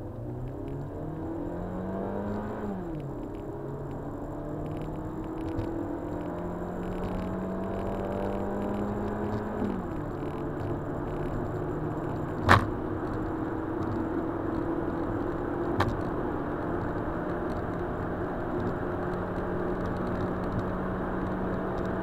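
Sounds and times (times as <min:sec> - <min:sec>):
car engine accelerating hard: 0:00.1 - 0:22.0.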